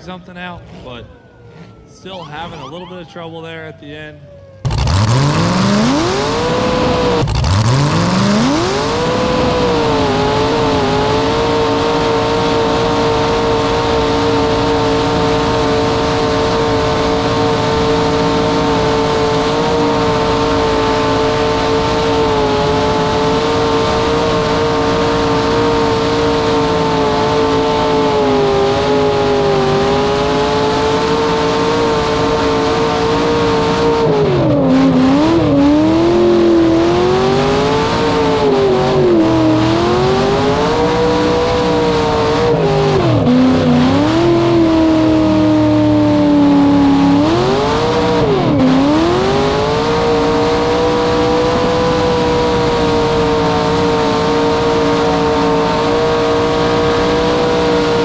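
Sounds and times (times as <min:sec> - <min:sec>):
tires spinning: 0:00.0 - 0:58.0
v eight engine revving: 0:00.0 - 0:58.0.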